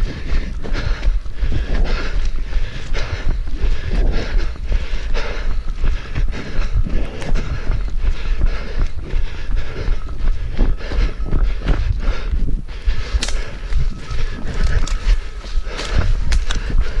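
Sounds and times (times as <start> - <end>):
running footsteps: 0.0 - 17.0
wind rumble on microphone: 0.0 - 17.0.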